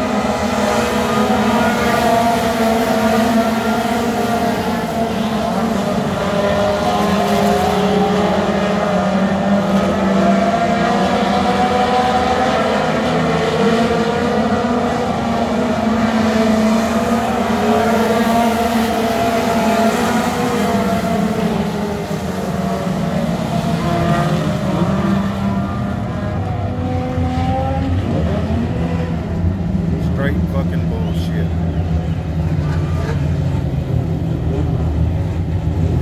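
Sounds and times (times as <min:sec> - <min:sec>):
stock car engines racing: 0:00.0 - 0:36.0.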